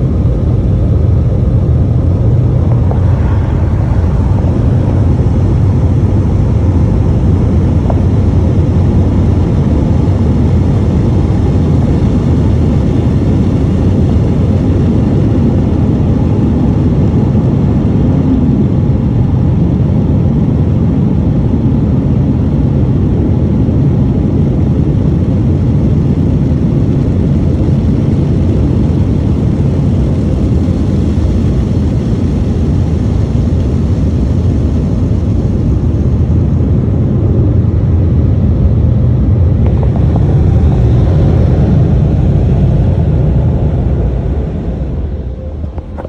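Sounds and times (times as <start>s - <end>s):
car wash equipment roaring: 0.0s - 20.2s, 23.9s - 46.0s.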